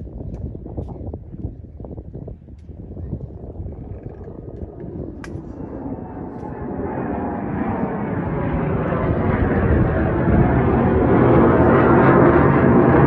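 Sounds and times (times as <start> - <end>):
airplane rumble: 0.0 - 13.0.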